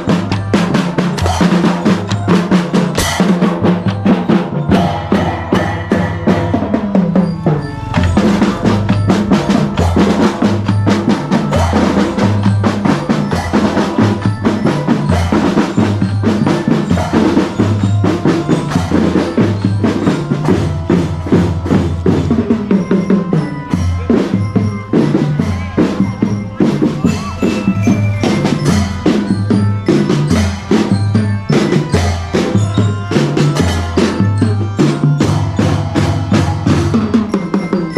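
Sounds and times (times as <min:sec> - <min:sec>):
marching drum band: 0:00.0 - 0:37.9.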